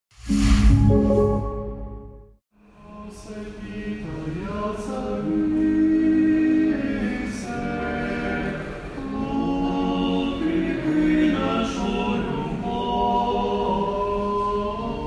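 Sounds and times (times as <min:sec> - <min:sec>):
choir singing unaccompanied chant: 0:02.6 - 0:15.0.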